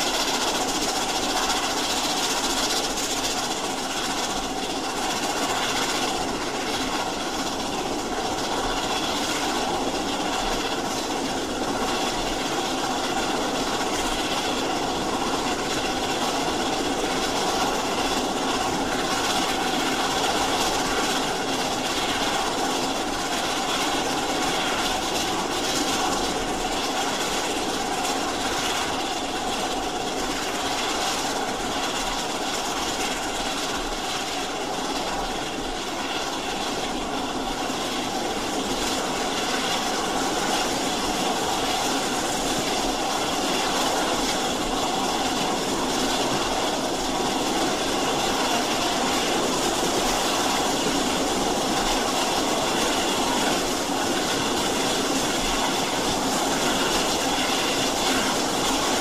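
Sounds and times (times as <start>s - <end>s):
steam train running on rails: 0.0s - 59.0s.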